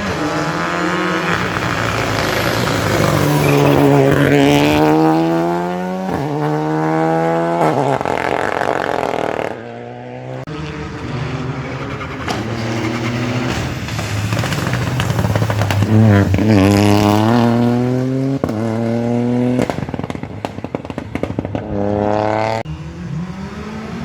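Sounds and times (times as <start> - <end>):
another car engine: 0.0 - 24.0
rally car engine revving: 0.0 - 24.0.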